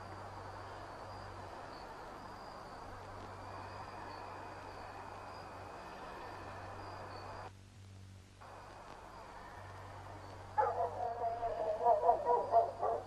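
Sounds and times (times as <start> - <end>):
low hum: 0.0 - 13.0
steady hiss: 0.0 - 13.0.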